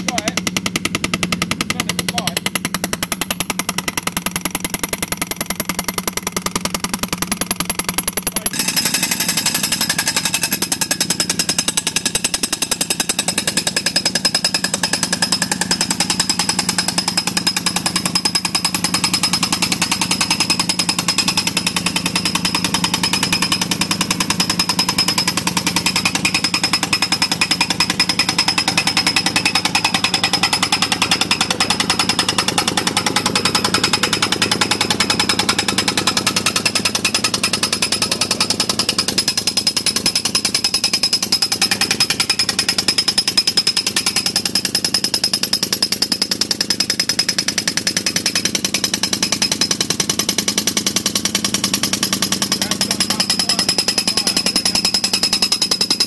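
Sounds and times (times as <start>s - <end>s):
pneumatic mole hammering: 0.0s - 56.0s.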